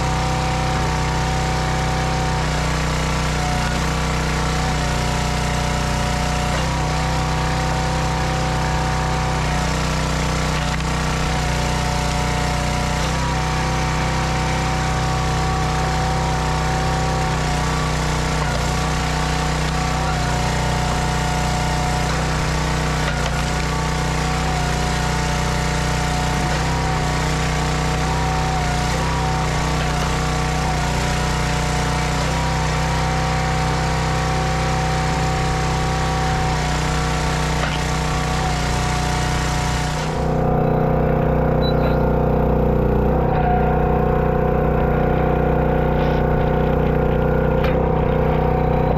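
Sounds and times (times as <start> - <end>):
hydraulic ram splitting wood: 0.0 - 48.9
log splitter engine running: 0.0 - 48.9.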